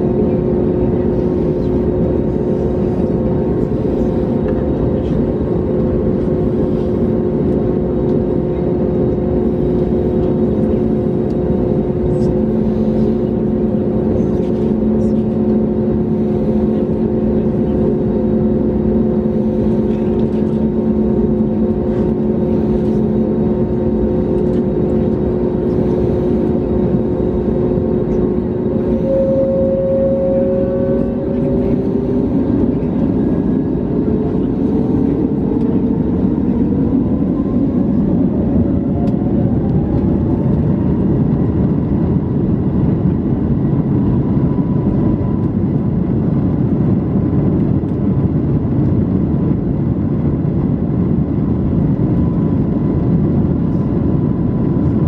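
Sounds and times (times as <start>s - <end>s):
engine rumble: 0.0s - 55.0s
jet engines whining: 0.0s - 55.0s.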